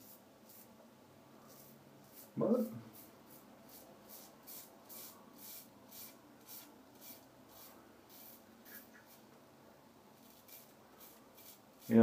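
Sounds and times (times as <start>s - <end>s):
razor scraping stubble: 1.5s - 9.2s, 10.1s - 12.0s.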